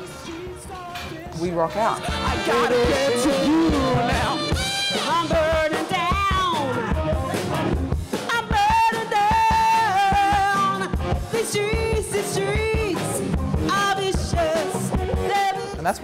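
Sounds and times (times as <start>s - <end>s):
woman singing: 0.0s - 1.4s, 2.2s - 15.8s
drums: 0.0s - 16.0s
live band playing: 0.0s - 16.0s.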